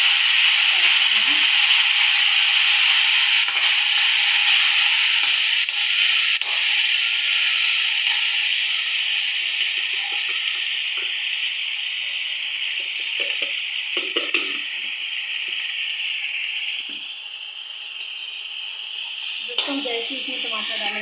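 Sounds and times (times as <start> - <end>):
tomatoes sizzling in oil: 0.0 - 21.0.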